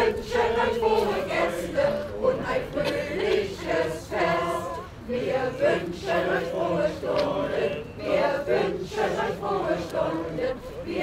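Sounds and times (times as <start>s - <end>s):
mixed choir singing: 0.0s - 11.0s.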